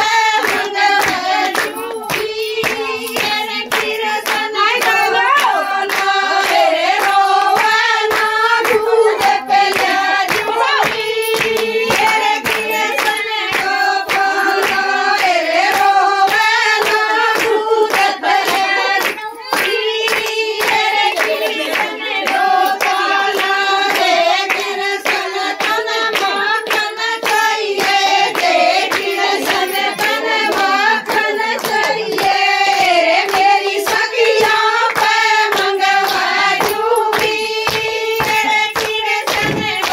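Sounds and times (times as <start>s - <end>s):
rhythmic hand clapping: 0.0s - 39.9s
women singing folk song: 0.0s - 39.9s.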